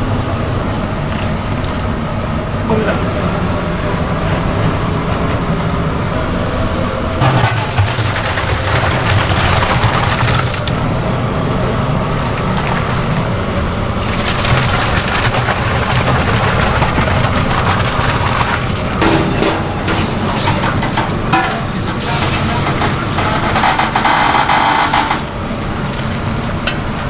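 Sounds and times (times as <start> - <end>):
low kitchen rumble: 0.0 - 27.0.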